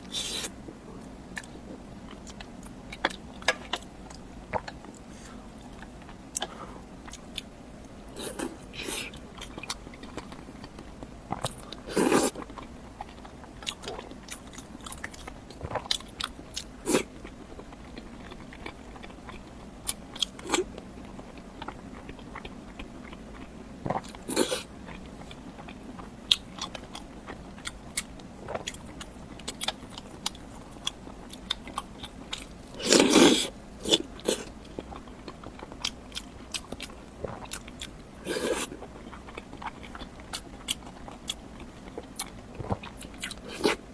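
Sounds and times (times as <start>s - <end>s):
chewing and mouth clicks: 8.2s - 43.8s.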